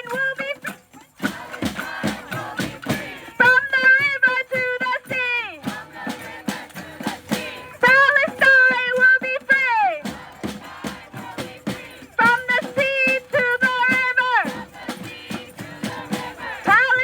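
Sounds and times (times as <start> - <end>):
rhythmic musical accompaniment: 0.0 - 17.0.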